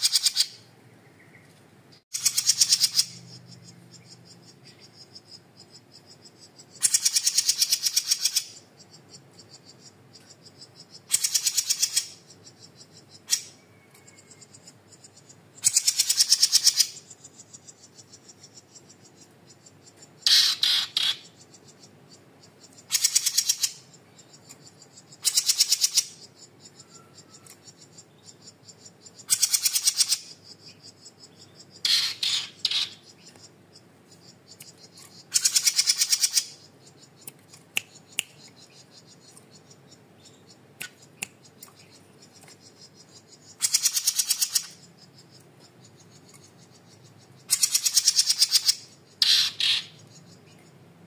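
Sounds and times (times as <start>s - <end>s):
songbird trilling: 0.0s - 50.9s.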